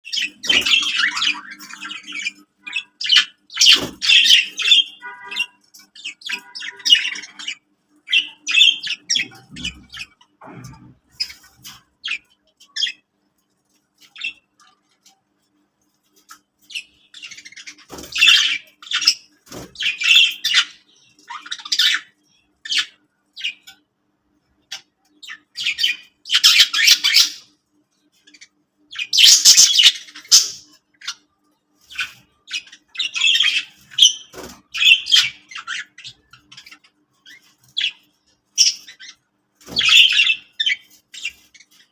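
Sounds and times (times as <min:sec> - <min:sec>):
budgerigars chattering and squawking: 0:00.1 - 0:13.1, 0:16.2 - 0:23.9, 0:24.6 - 0:27.6, 0:28.3 - 0:41.9.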